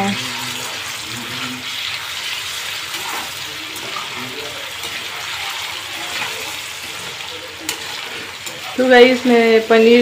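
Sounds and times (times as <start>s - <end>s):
food sizzling in hot oil: 0.0s - 10.0s
spoon stirring in wok: 0.0s - 10.0s.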